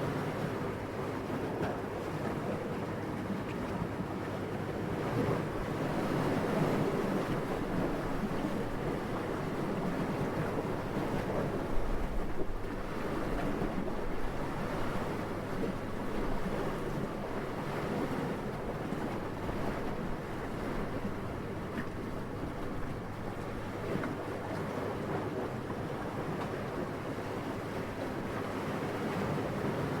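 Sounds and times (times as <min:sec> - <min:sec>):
gentle wind: 0:00.0 - 0:30.0.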